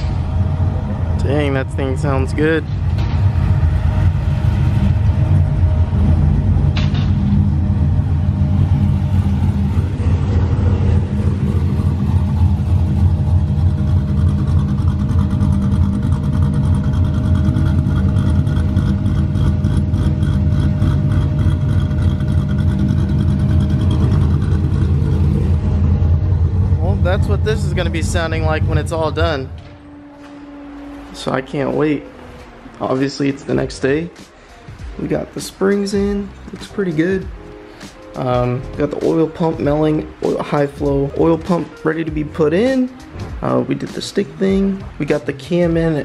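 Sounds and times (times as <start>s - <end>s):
car engine idling with low rumble: 0.0s - 46.0s.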